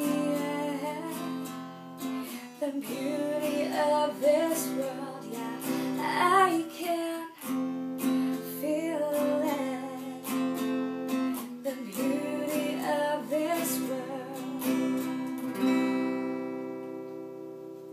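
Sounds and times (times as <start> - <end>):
woman singing: 0.0 - 15.4
strummed acoustic guitar: 0.0 - 17.9.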